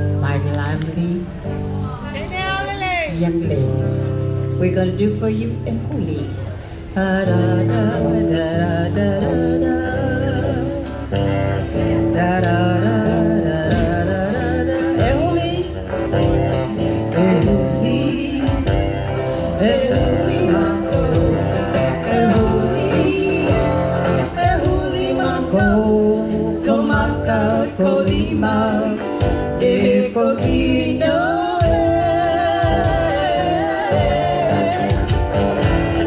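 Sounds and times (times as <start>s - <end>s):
guitar accompaniment: 0.0s - 36.0s
person singing with vibrato: 6.7s - 36.0s.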